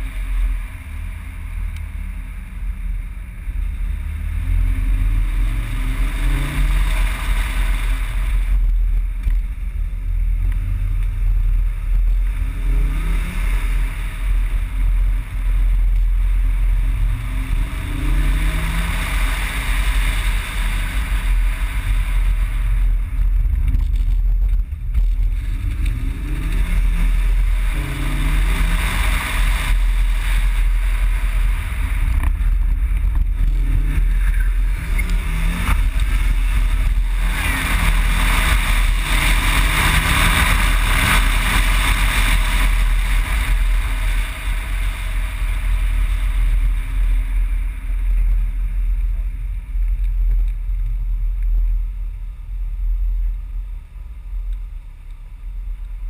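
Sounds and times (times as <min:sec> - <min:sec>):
car engine accelerating through gears: 0:00.0 - 0:51.7
wind buffeting on microphone: 0:03.5 - 0:52.0.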